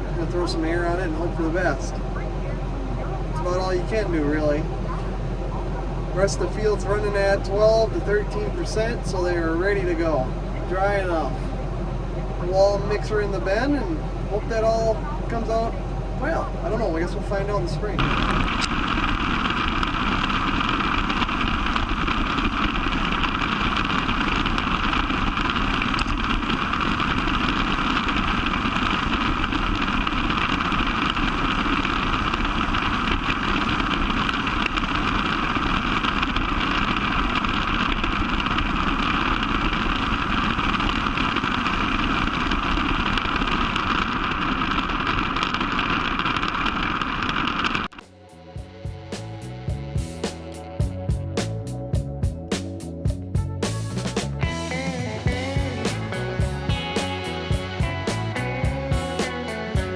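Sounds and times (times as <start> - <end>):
combine harvester drone: 0.0 - 59.9.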